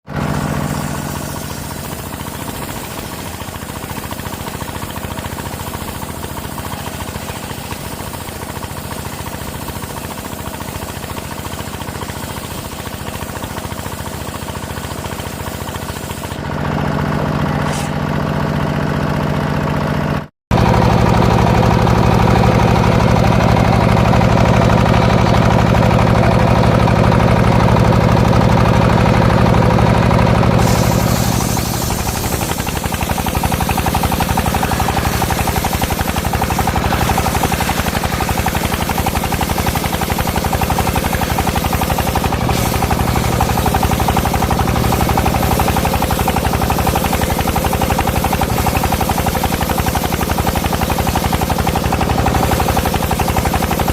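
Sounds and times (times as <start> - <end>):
engine with fast knocking beat: 0.0 - 53.9.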